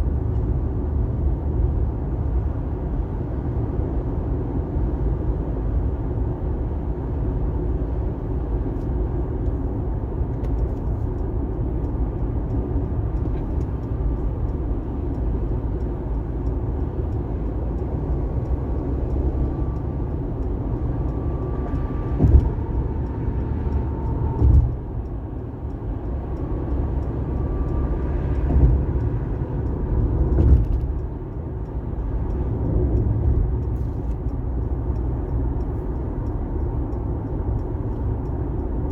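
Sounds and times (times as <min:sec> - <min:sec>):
car driving on wet highway: 0:00.0 - 0:38.9.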